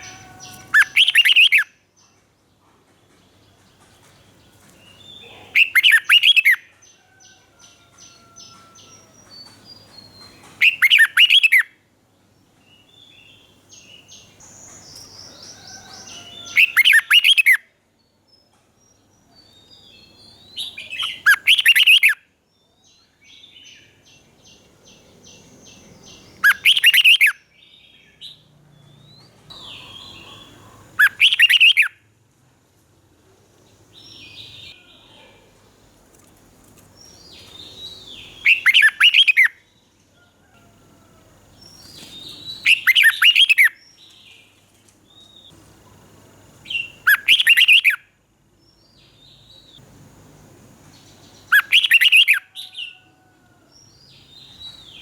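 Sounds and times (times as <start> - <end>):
bird song phrases: 0.0 - 31.9, 33.6 - 35.9, 36.9 - 45.6, 46.6 - 55.0.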